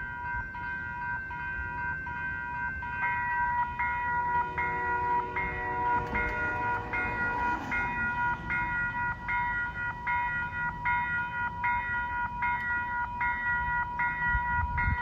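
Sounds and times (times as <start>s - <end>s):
crossing warning bell ringing: 0.0s - 15.0s
train rumbling: 0.0s - 15.0s.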